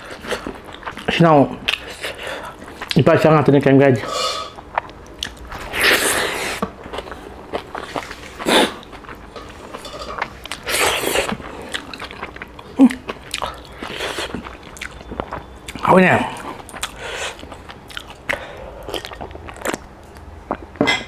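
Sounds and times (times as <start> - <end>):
wet chewing and mouth smacking: 0.0 - 3.1, 4.5 - 20.8.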